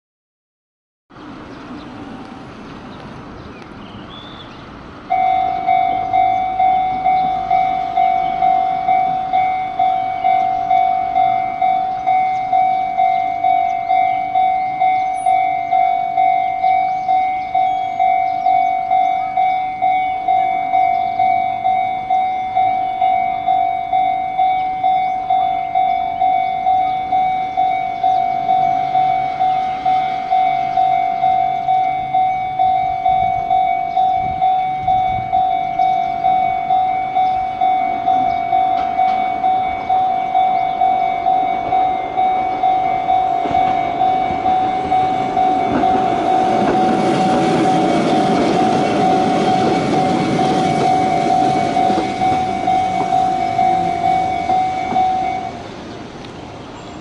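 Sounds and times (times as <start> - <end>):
railroad crossing bell dinging: 4.0 - 57.0.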